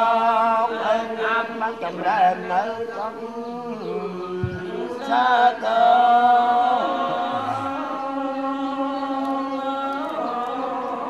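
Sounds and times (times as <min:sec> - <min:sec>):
monks chanting into microphone: 0:00.0 - 0:11.0.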